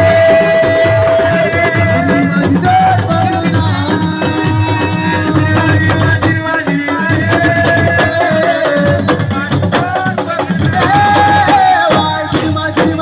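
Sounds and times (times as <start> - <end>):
held melody line: 0.0 - 13.0
rapid drumming: 0.0 - 13.0
rattling shakers: 0.0 - 13.0.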